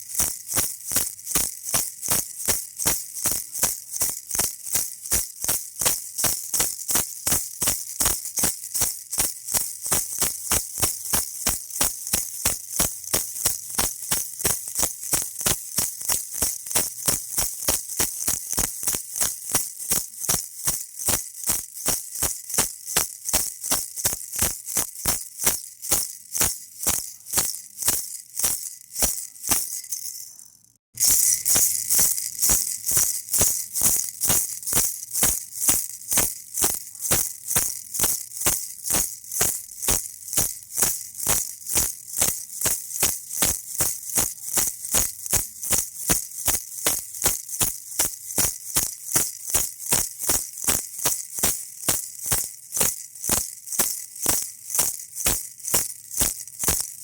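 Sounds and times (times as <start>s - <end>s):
baby rattle shaking: 0.0s - 57.0s.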